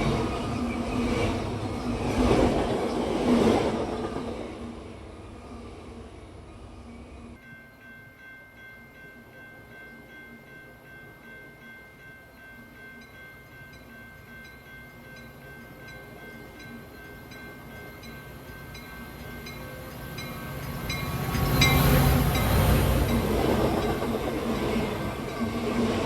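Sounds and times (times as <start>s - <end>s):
passenger train passing: 0.0s - 26.0s.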